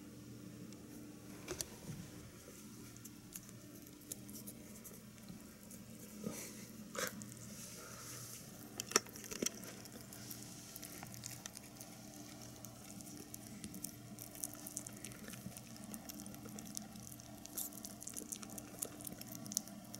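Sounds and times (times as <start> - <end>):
rabbit munching: 0.8 - 19.9.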